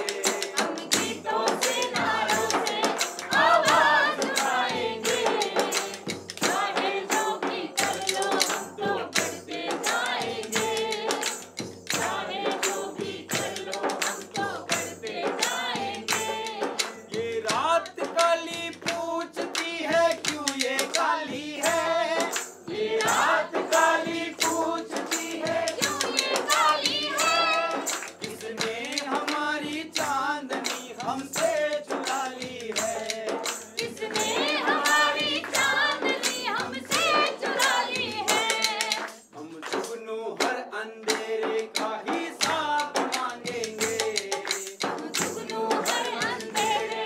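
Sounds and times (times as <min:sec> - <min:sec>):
group singing: 0:00.0 - 0:47.0
hand clapping: 0:00.0 - 0:47.0.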